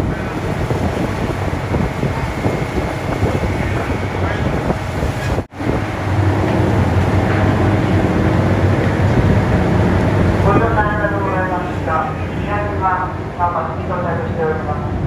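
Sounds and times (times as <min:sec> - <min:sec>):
ferry engine droning: 0:00.0 - 0:15.0
rushing noise: 0:00.0 - 0:15.0.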